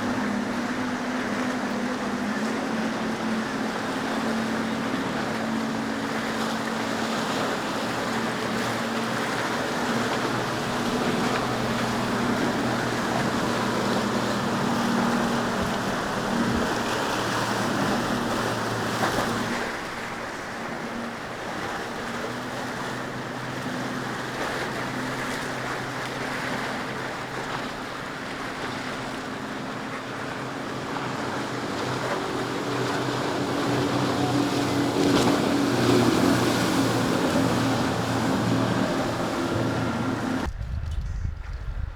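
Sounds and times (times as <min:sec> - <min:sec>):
boat engines droning: 0:00.0 - 0:40.5
surf: 0:00.0 - 0:40.5
wind: 0:00.0 - 0:41.9.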